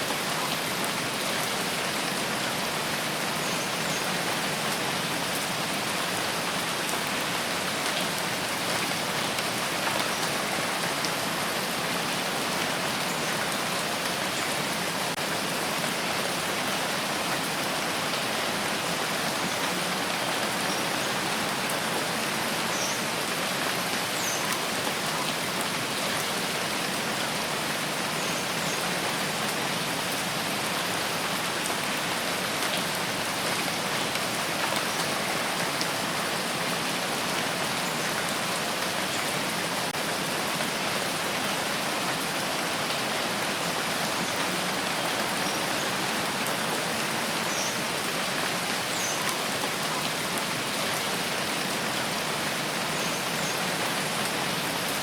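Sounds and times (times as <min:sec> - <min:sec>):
rain pattering: 0:00.1 - 0:55.0.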